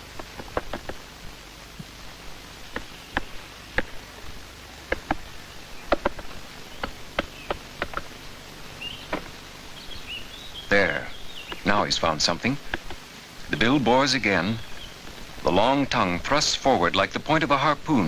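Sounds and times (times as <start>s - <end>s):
woodpecker tapping on wood: 0.0s - 16.0s.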